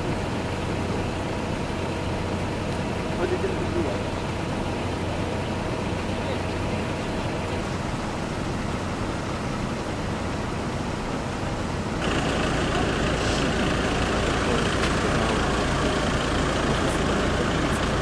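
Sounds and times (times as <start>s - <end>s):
vehicle engines idling: 0.0s - 18.0s.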